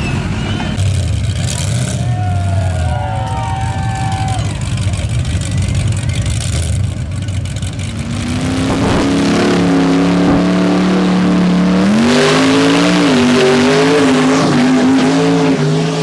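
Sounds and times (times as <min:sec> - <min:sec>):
truck engine revving high: 0:00.0 - 0:16.0.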